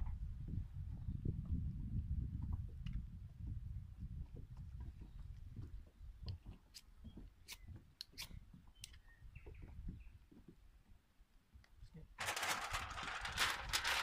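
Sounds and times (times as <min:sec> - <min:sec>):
wind rumble on microphone: 0:00.0 - 0:10.4, 0:12.4 - 0:14.0.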